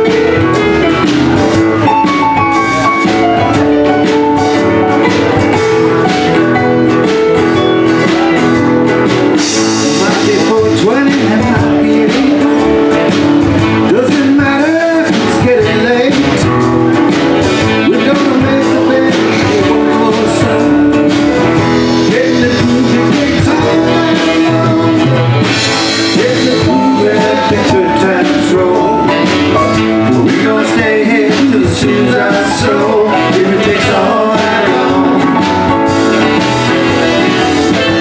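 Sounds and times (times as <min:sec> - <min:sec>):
acoustic guitar: 0:00.0 - 0:38.0
drums: 0:00.0 - 0:38.0
electric guitar: 0:00.0 - 0:38.0
keyboard: 0:00.0 - 0:38.0.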